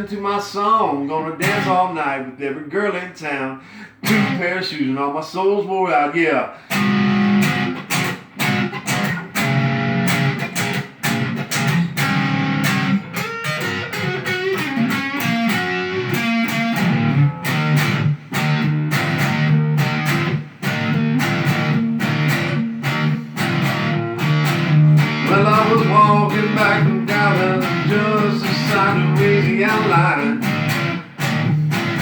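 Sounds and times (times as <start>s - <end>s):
picked guitar melody: 1.4s - 1.7s, 4.0s - 4.4s, 6.7s - 32.0s
guitar strumming chords: 4.0s - 4.4s, 6.7s - 32.0s.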